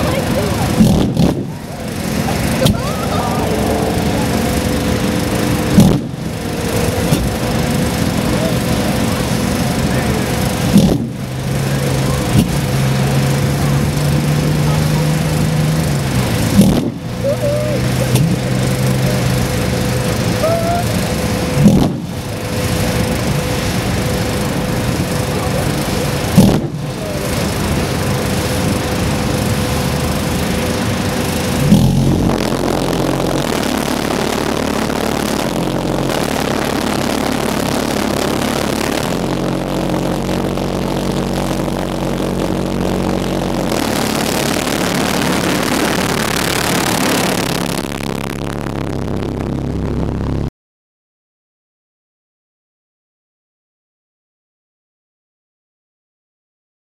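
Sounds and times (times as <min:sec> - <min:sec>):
pulsejet engine roar: 0:00.0 - 0:50.5
sharp engine bangs: 0:00.0 - 0:50.5.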